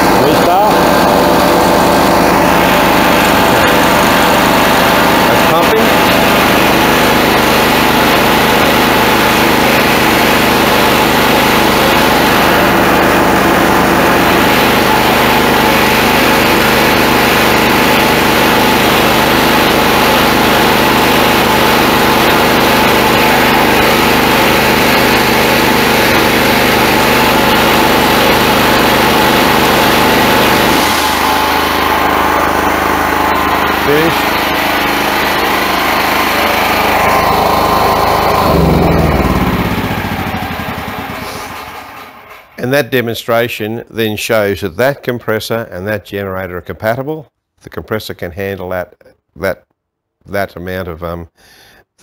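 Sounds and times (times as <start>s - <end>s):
air compressor pumping: 0.0s - 42.6s
petrol generator running: 0.0s - 42.8s.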